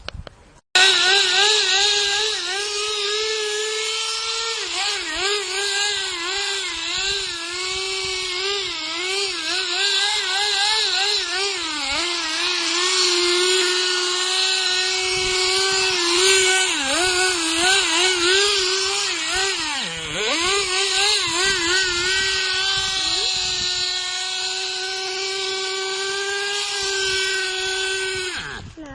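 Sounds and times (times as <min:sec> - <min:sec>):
model engine high-pitched running: 0:00.8 - 0:28.9.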